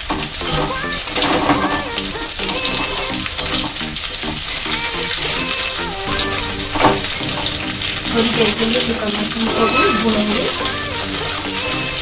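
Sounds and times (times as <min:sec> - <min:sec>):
food sizzling in hot oil: 0:00.0 - 0:12.0
spatula stirring: 0:00.0 - 0:12.0.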